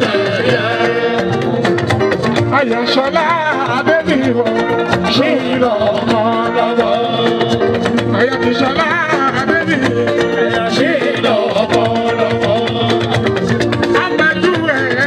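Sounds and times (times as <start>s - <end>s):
man singing: 0.0s - 1.6s, 2.4s - 15.0s.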